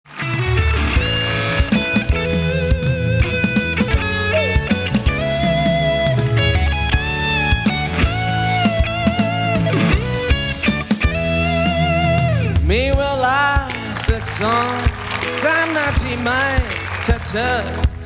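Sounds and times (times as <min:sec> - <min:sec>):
bass guitar: 0:00.0 - 0:18.0
electric lead guitar melody: 0:00.1 - 0:18.0
steady drum beat: 0:00.5 - 0:18.0.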